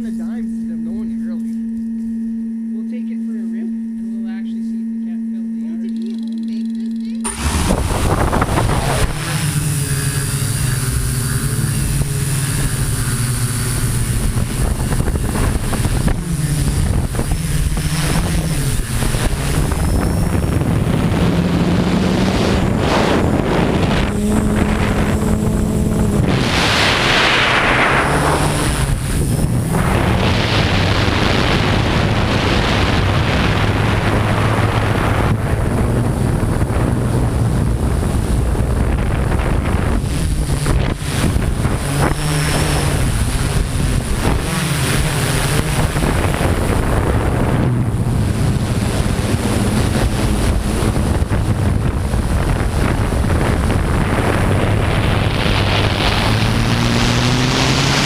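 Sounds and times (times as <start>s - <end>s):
drone propellers humming: 0.0s - 58.0s
wind rushing over microphone: 7.2s - 58.0s.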